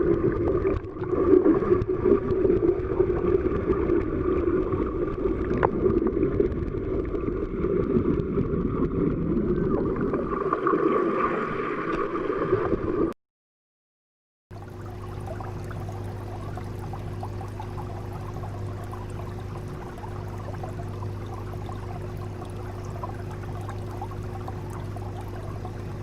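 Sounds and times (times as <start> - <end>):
underwater rush of water: 0.0 - 13.1, 14.6 - 26.0.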